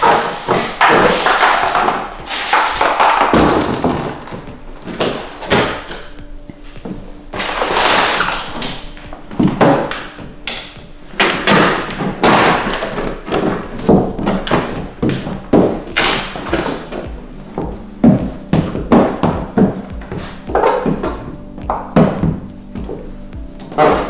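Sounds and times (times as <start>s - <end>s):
squeegee scraping film: 0.0s - 24.0s.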